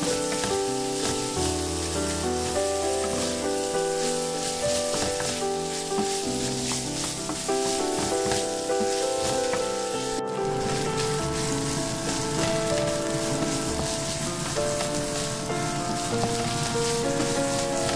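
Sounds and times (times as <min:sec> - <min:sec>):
background music: 0:00.0 - 0:17.9
wooden spatula stirring in pan: 0:00.0 - 0:17.9.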